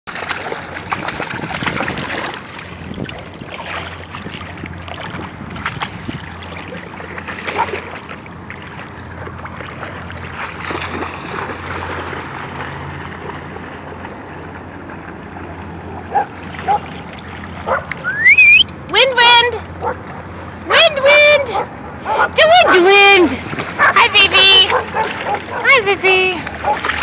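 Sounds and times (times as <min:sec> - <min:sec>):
dogs splashing through water: 0:00.1 - 0:27.0.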